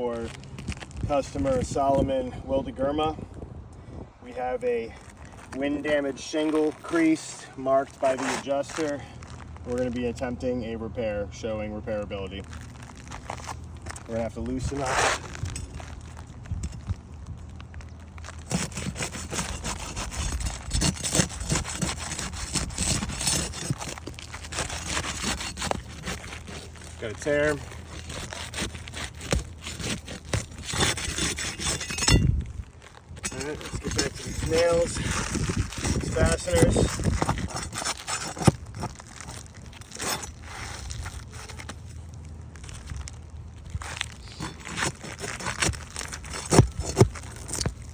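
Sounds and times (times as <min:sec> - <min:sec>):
roof shingle scraping and rubbing: 0:00.0 - 0:02.4, 0:04.3 - 0:11.1, 0:11.7 - 0:47.9.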